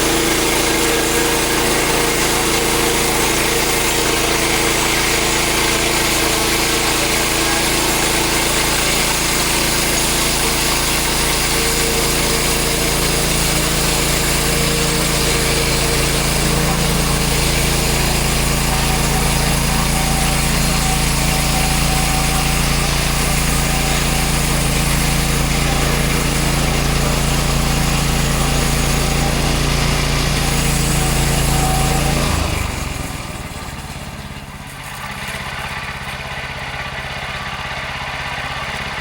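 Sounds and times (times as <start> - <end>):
bandsaw sawmill cutting log: 0.0 - 39.0.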